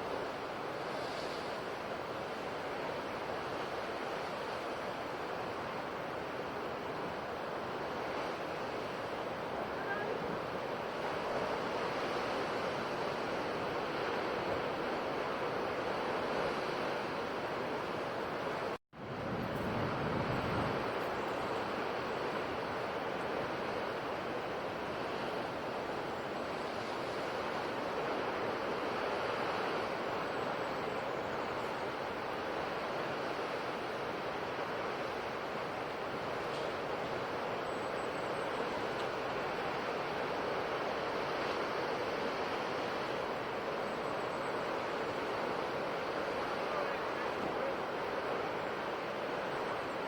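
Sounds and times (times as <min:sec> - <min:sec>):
ocean surf washing on shore: 0:00.0 - 0:50.0.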